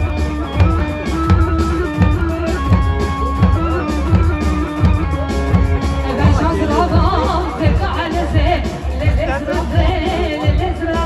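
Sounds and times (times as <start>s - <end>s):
heavy drum beat: 0.0s - 11.0s.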